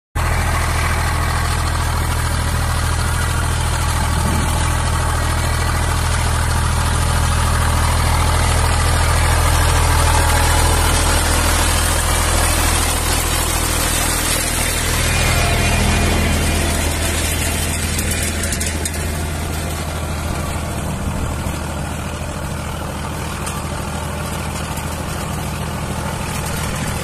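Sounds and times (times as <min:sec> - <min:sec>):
tractor diesel engine under load: 0:00.2 - 0:27.0.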